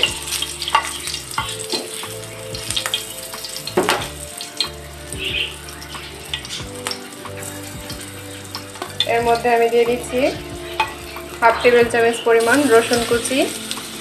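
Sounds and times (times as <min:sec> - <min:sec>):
chillies sizzling in hot oil: 0:00.0 - 0:14.0.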